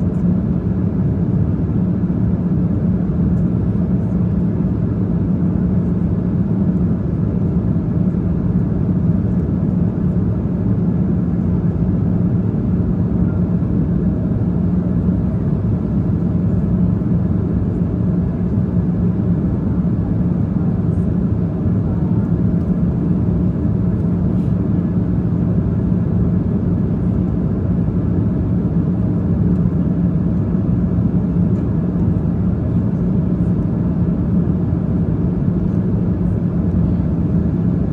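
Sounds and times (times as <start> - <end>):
airliner cabin jet drone: 0.0 - 37.9.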